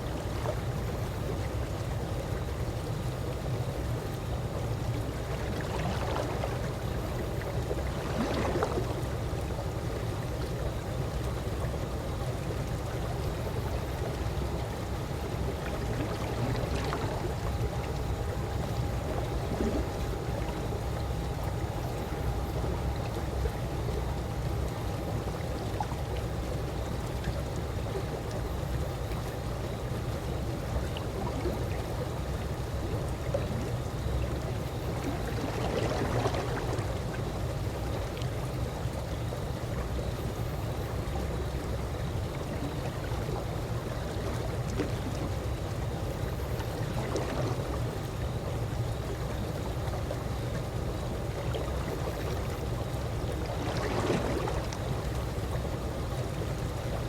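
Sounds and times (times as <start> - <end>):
pool water lapping and gurgling: 0.0 - 57.0.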